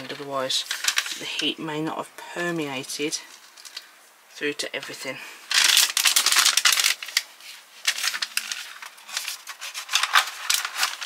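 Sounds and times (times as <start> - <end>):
plastic bag rustling: 0.0 - 1.7, 2.7 - 4.0, 4.8 - 11.0.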